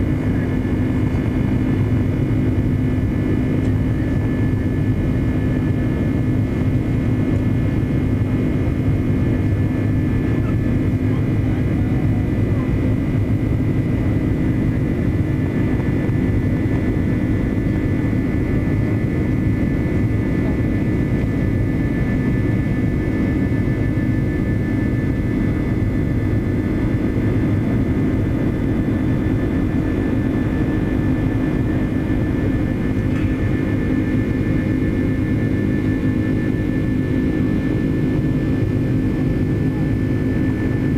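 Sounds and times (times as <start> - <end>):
jet engines heard from cabin: 0.0 - 40.9.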